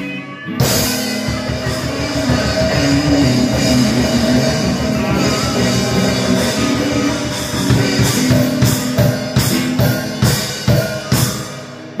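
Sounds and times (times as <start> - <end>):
drum kit: 0.0 - 12.0
electric guitar through amp: 0.0 - 12.0.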